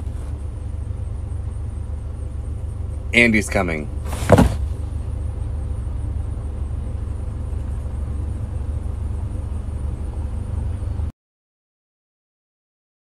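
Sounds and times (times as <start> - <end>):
low rumble inside car: 0.0 - 11.1.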